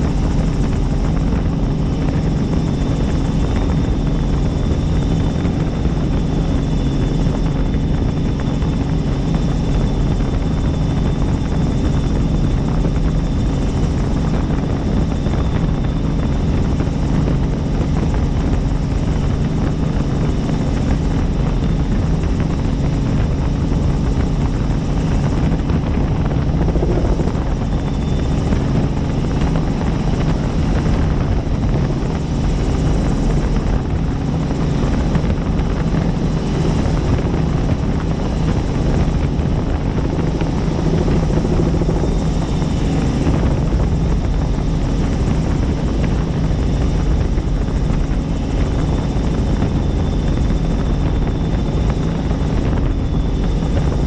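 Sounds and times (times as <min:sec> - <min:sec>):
helicopter rotor drone: 0:00.0 - 0:54.0.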